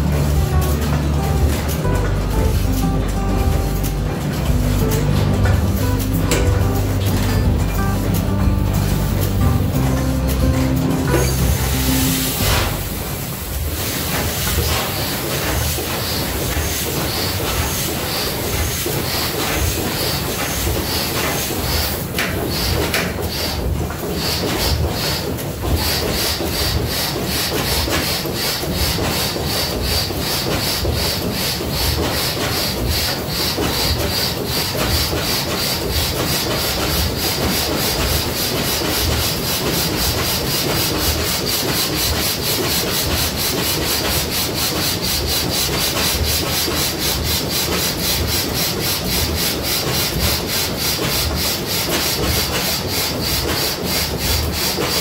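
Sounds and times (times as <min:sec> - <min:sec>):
stationary engine running: 0:00.0 - 0:55.0.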